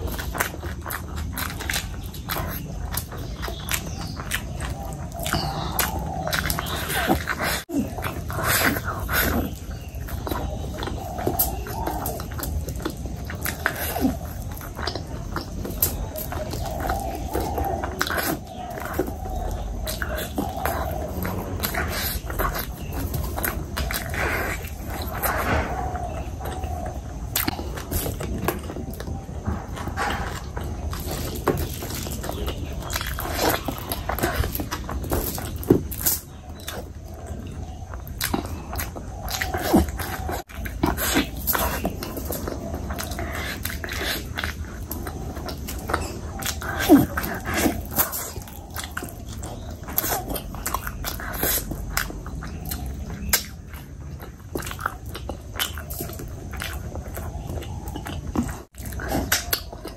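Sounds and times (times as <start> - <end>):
mouth clicks: 0.0 - 59.9
wet chewing: 0.0 - 59.9.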